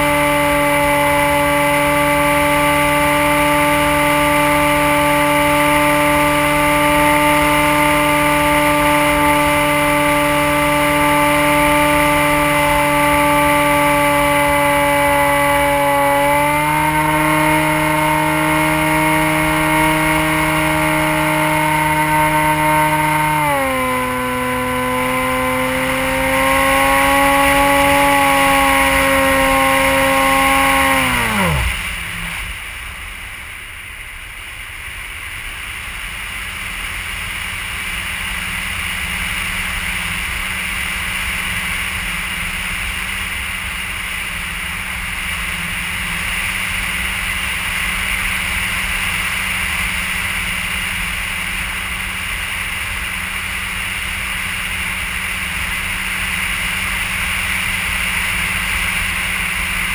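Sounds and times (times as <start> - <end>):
model plane motor whining: 0.0 - 33.2, 36.4 - 59.9.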